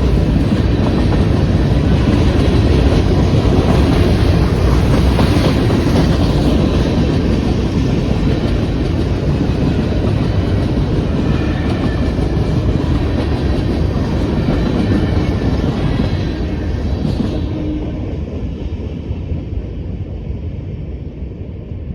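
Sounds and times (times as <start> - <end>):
freight train wheels rumbling: 0.0 - 21.9.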